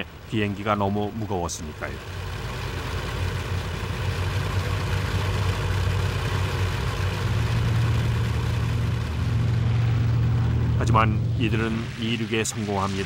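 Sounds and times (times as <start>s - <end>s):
piston aircraft engines droning: 0.0s - 13.0s.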